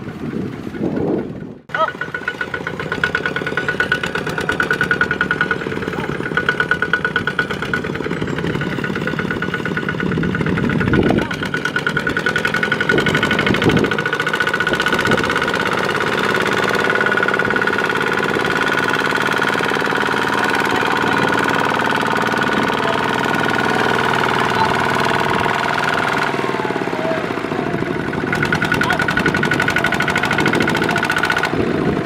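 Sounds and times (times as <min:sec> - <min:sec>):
diesel engines running under load: 0:00.0 - 0:32.0.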